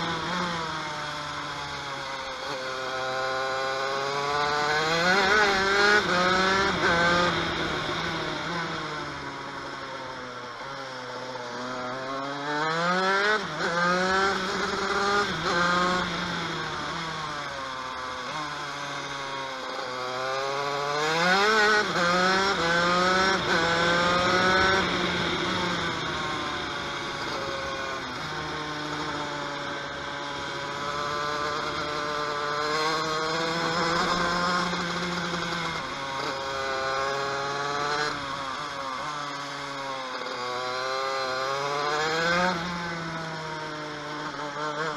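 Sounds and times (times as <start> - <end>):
kart engine buzzing: 0.0 - 44.9.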